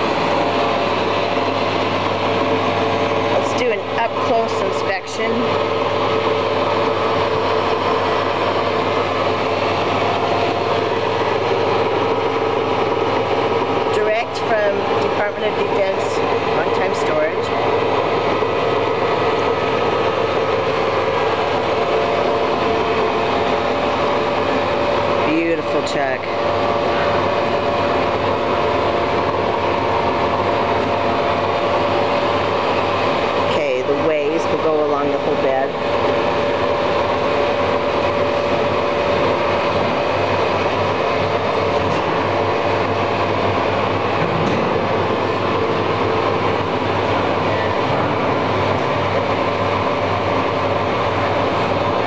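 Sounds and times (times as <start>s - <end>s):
machinery humming: 0.0s - 52.0s
steady mechanical tones: 0.0s - 52.0s.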